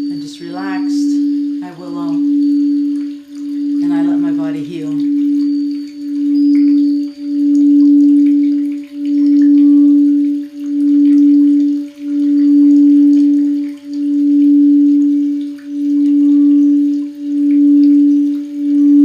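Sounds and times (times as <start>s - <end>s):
singing bowl pulsing tone: 0.0s - 19.0s.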